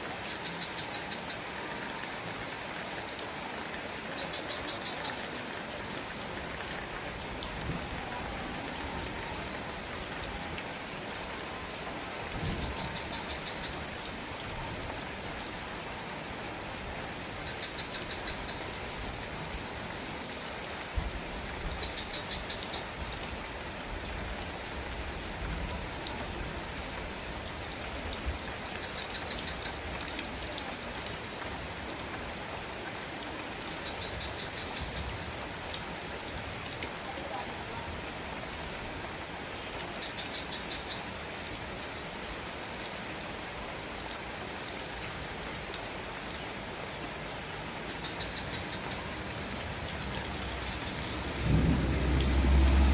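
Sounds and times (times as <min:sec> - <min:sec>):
water drips: 0:00.0 - 0:37.4, 0:39.2 - 0:52.9
rain falling: 0:00.0 - 0:52.9.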